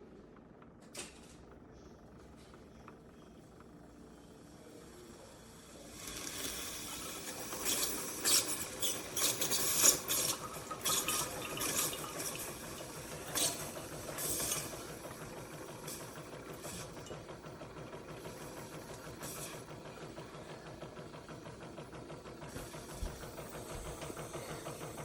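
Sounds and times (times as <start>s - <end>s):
coffee maker hissing and sputtering: 2.9s - 25.0s.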